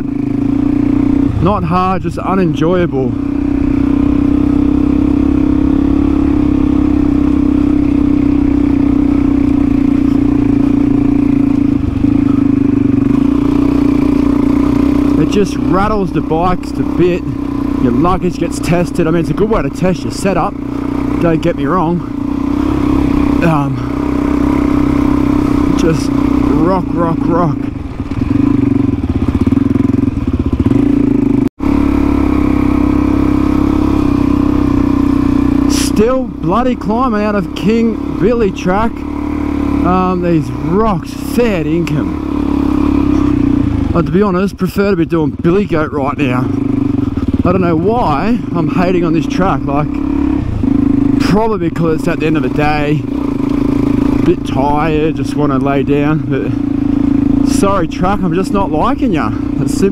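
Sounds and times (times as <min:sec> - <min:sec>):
trail bike engine pulling: 0:00.0 - 0:59.9.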